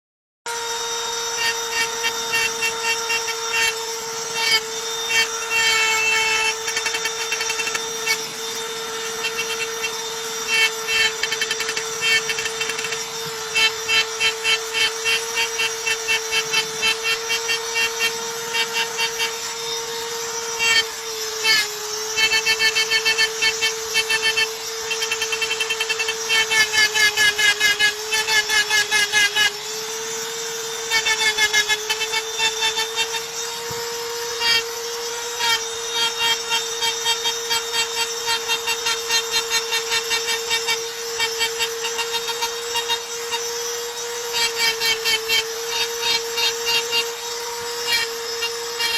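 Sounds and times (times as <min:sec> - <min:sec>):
electric drill running: 0:00.5 - 0:48.9.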